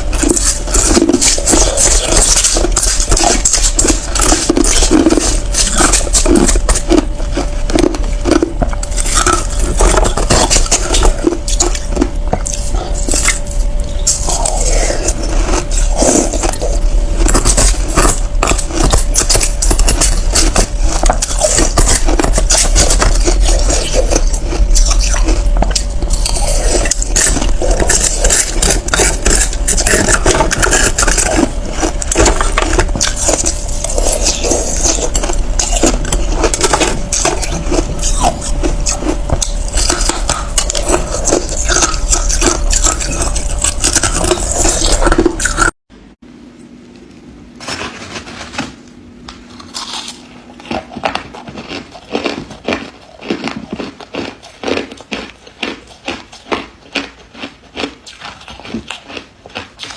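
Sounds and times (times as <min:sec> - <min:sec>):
ice being chewed: 0:00.0 - 0:45.7, 0:49.3 - 0:59.9.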